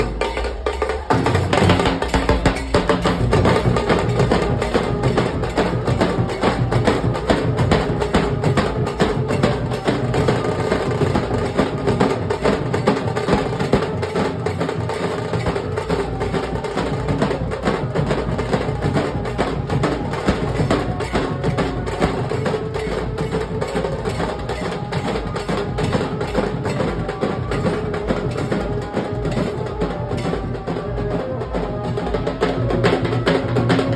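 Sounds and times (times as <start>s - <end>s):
barrel drums playing fast rhythm: 0.0s - 33.9s.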